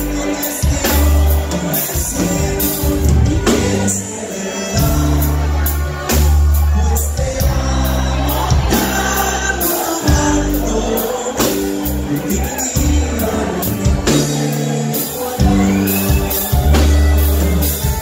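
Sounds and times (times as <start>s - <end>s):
live band playing: 0.0s - 18.0s
man singing lead: 0.0s - 18.0s.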